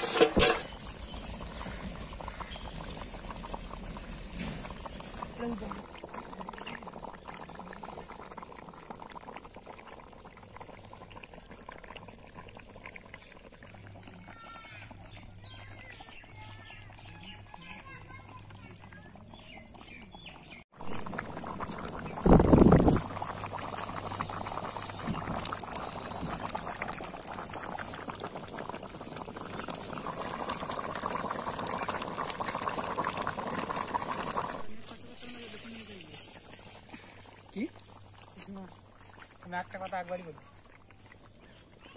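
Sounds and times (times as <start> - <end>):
curry boiling in metal pan: 0.0 - 41.9.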